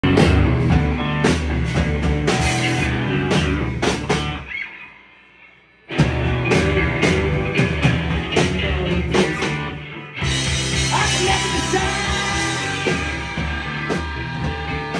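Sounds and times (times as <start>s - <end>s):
rock band playing: 0.0s - 14.9s.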